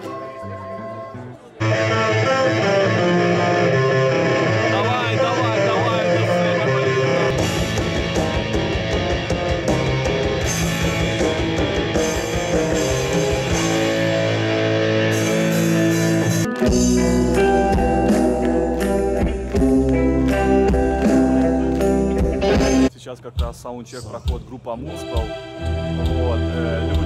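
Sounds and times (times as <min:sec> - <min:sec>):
live metal band playing: 0:00.0 - 0:22.9, 0:24.1 - 0:27.0.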